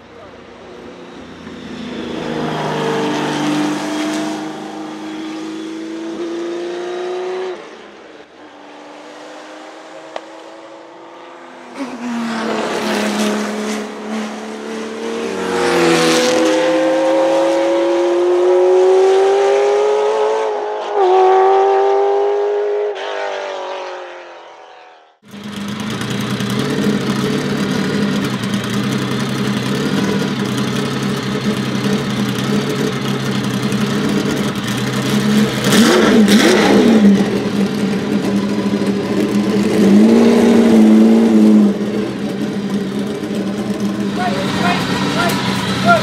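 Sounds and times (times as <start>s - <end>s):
racing engine at full throttle: 0.0s - 46.0s.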